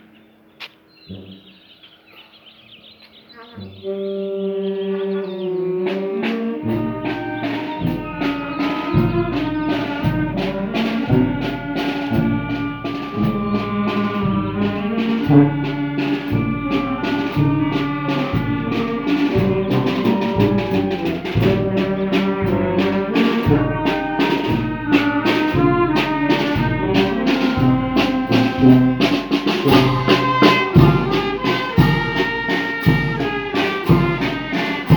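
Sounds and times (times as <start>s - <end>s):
brass band playing: 3.4s - 34.9s.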